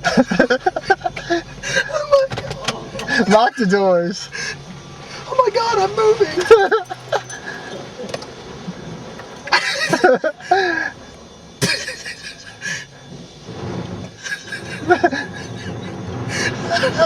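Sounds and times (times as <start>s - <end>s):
voices inside a car: 0.0s - 17.0s.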